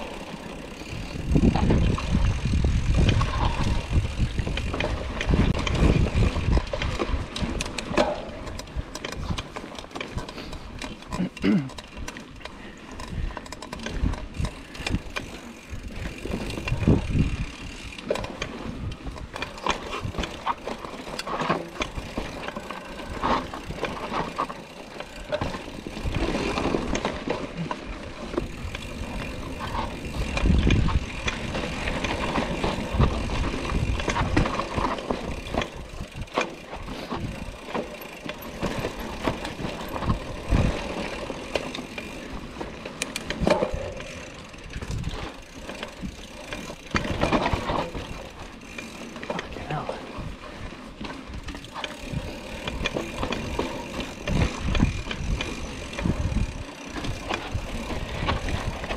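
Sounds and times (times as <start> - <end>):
bike chain and frame rattling: 0.0 - 58.9
bike tyres rolling on dirt: 0.0 - 58.9.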